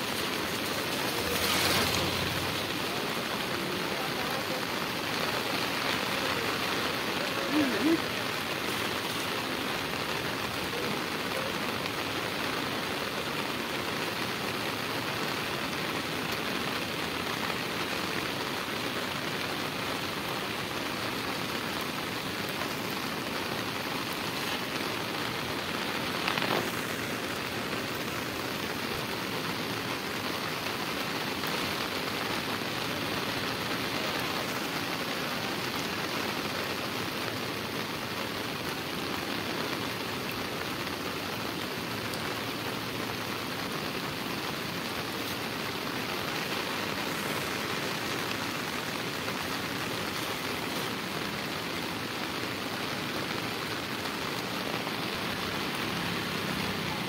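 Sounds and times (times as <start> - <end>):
heavy rain on river: 0.0 - 57.0.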